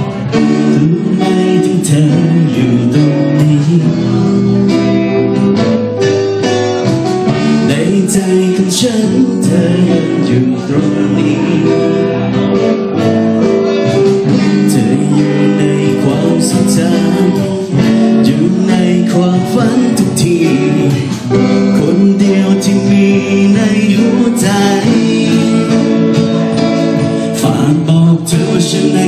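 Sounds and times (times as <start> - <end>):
guitar strumming: 0.0 - 29.0
held keyboard chords: 0.0 - 29.0.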